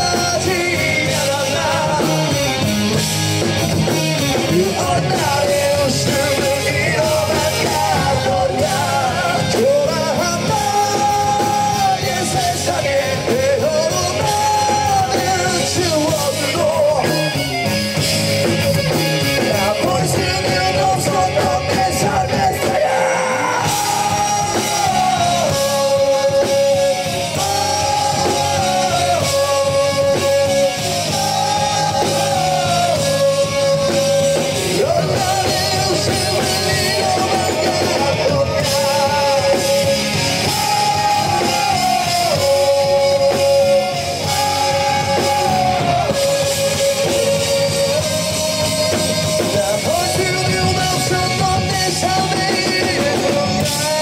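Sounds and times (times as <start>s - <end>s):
bass guitar: 0.0s - 54.0s
distorted electric guitar: 0.0s - 54.0s
drum kit: 0.0s - 54.0s
man singing: 0.0s - 54.0s.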